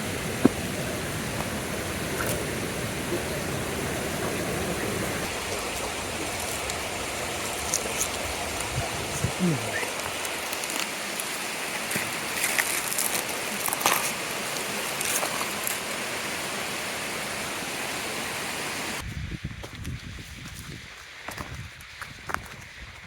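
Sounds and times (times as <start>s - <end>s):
steady rain hiss: 0.0s - 19.1s.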